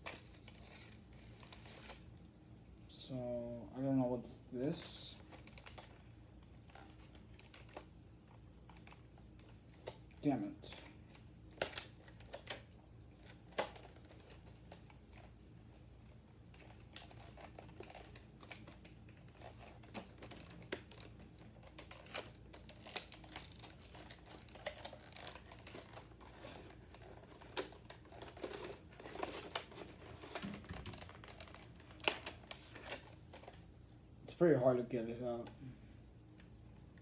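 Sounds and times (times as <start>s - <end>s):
plastic packaging clicking and crinkling: 0.0s - 2.0s, 4.8s - 33.7s.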